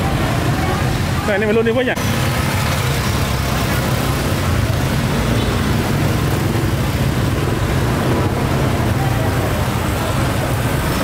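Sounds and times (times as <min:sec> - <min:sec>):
motorbike engines droning: 0:00.0 - 0:11.0
street noise hiss: 0:00.0 - 0:11.0.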